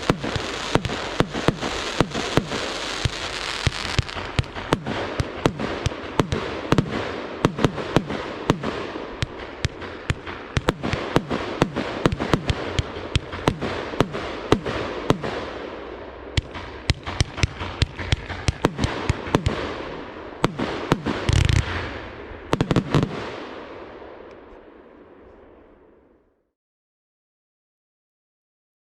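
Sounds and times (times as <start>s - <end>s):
firework bursts overhead: 0.0s - 26.2s.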